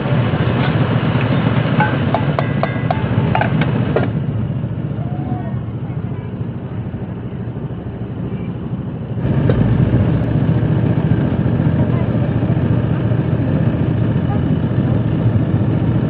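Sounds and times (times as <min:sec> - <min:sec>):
crushing machine humming: 0:00.0 - 0:16.0.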